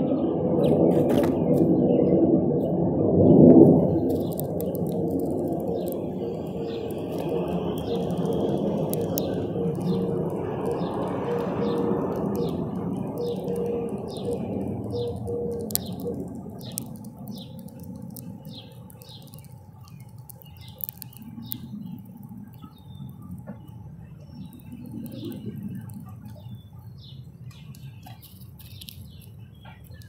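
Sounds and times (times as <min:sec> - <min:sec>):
low steady rumble: 0:00.0 - 0:30.0
small birds chirping: 0:03.3 - 0:30.0.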